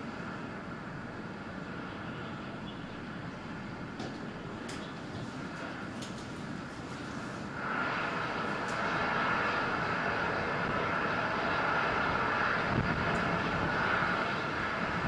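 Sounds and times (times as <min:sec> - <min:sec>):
distant rocket roar: 0:00.0 - 0:15.0.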